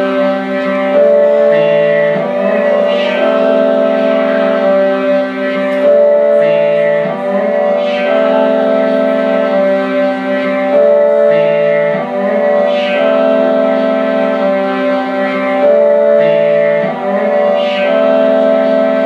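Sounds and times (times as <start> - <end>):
slow music with sustained chords: 0.0 - 19.0.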